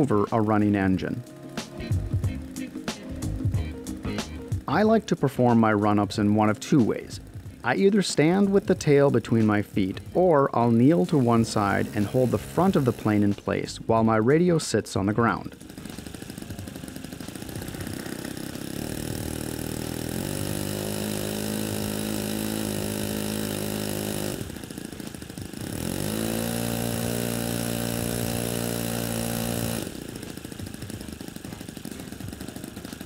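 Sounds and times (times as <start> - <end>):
model airplane engine revving: 0.0 - 33.0.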